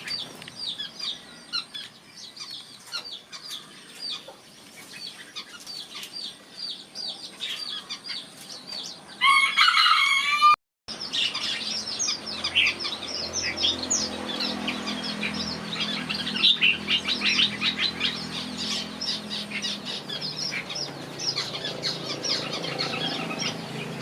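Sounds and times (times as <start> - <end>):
small birds chirping: 0.0 - 9.8, 10.9 - 24.0.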